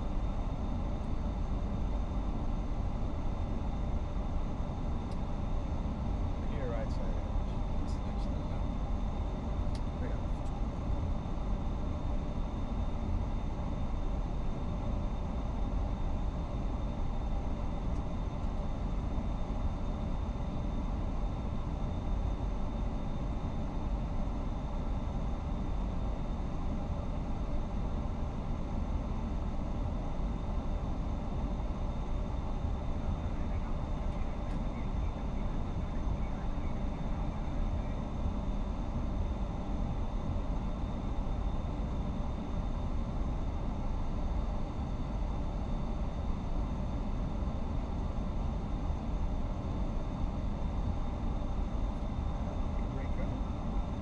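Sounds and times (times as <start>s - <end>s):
aircraft taxiing rumble: 0.0s - 54.0s.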